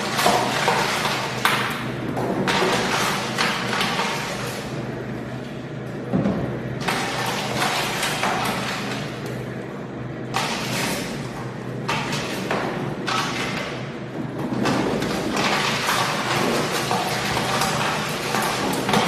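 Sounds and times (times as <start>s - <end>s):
juicing machine humming: 0.0s - 19.0s.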